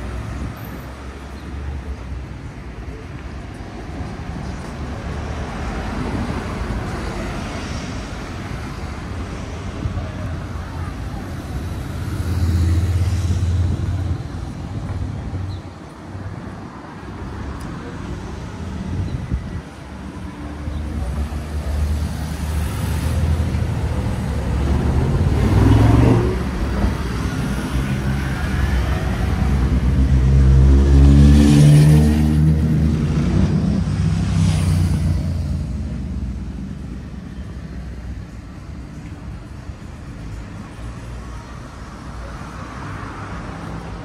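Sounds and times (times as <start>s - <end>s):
vehicles passing on street: 0.0s - 44.0s.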